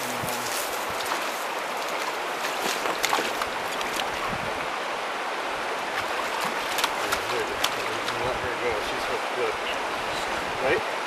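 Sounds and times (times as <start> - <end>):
rushing stream water: 0.0 - 11.0
water splashes: 0.0 - 11.0.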